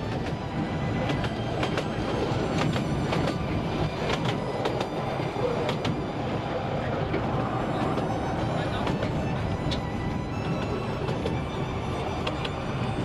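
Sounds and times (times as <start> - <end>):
train rumble: 0.0 - 13.0
wheels clicking on track: 0.0 - 13.0.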